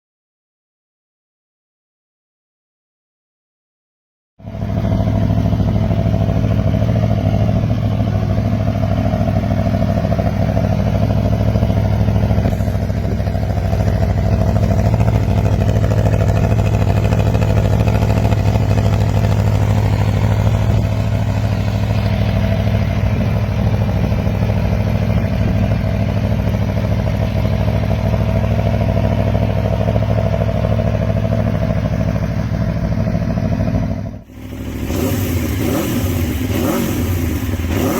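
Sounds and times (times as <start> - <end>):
motorcycle engine idling: 4.4 - 37.9.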